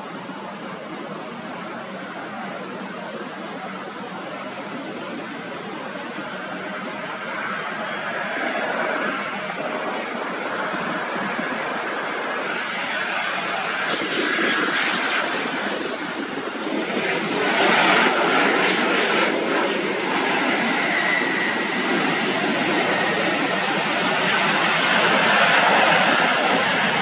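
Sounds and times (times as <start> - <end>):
high jet engine whine: 0.0 - 27.0
jet engines rumbling: 0.0 - 27.0.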